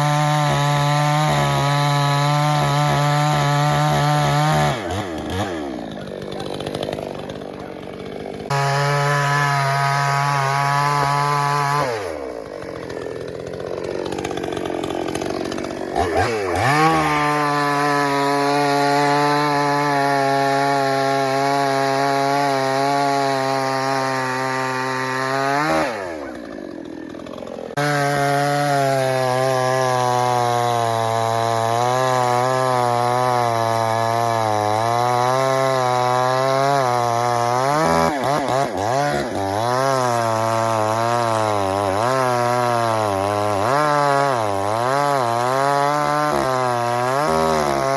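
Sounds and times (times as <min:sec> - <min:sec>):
chainsaw revving: 0:00.0 - 0:47.9.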